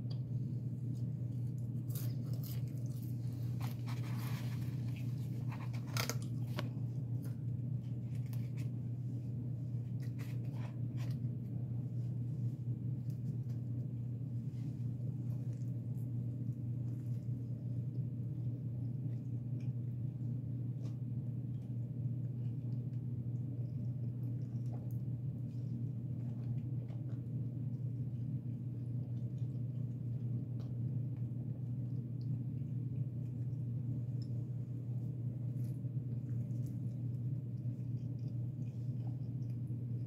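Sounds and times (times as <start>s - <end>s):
person chewing food: 0.0s - 8.8s, 15.1s - 40.0s
steady low hum: 0.0s - 40.0s.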